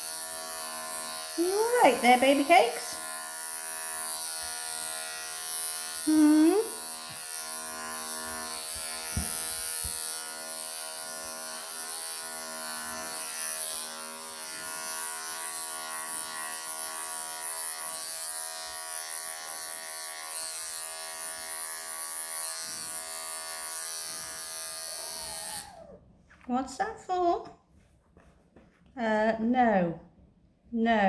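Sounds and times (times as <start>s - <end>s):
electric clippers buzzing: 0.0s - 26.0s.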